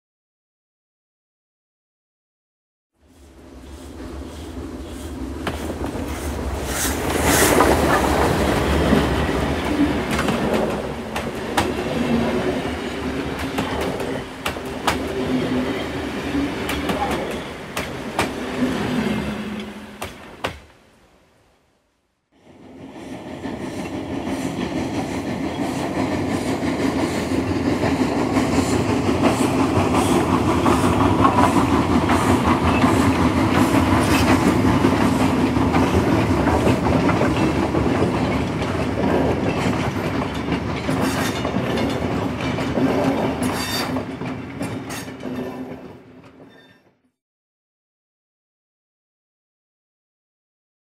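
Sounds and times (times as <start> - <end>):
train wheels clickety-clack: 3.6 - 20.7, 22.6 - 47.0.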